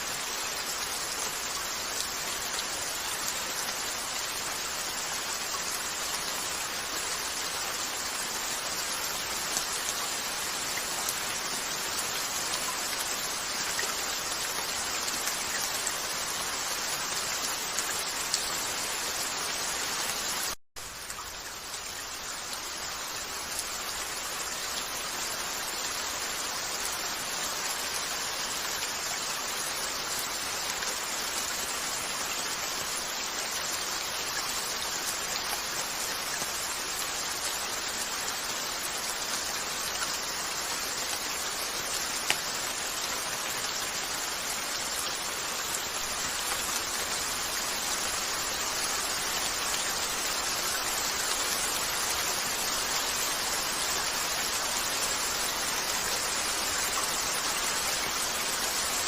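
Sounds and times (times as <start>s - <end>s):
rain falling on a window: 0.0s - 59.0s.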